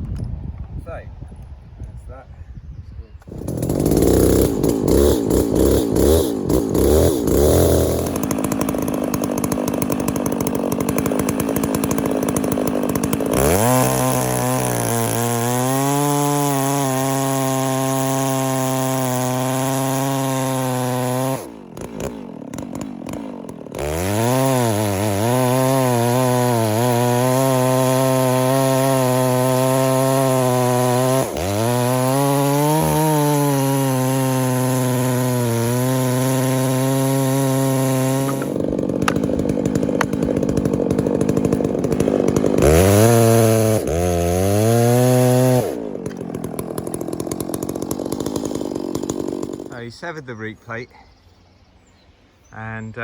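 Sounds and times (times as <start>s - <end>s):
chainsaw cutting wood: 3.2s - 50.3s.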